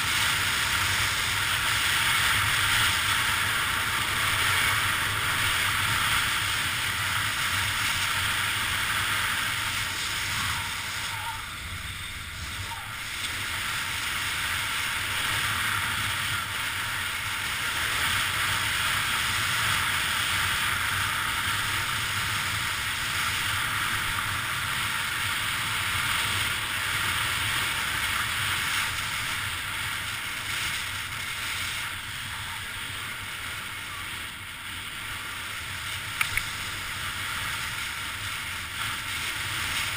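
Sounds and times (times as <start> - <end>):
skis hissing over snow: 0.0 - 39.9.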